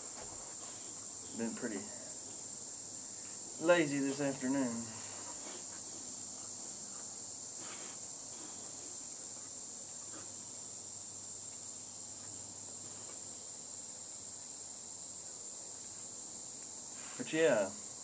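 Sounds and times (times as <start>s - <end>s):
insects chirping chorus: 0.0s - 18.0s.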